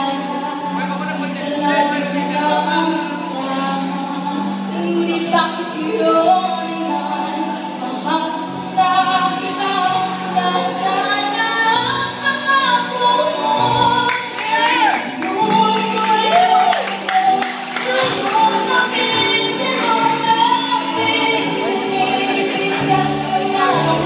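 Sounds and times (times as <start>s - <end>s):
backing track: 0.0s - 24.0s
person singing into a microphone: 0.0s - 24.0s.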